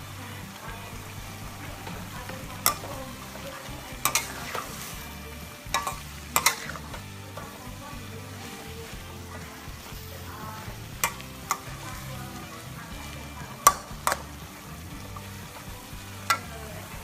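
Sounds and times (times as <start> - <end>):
food sizzling in a wok: 0.0 - 17.0
metal spatula scraping a wok: 1.0 - 17.0.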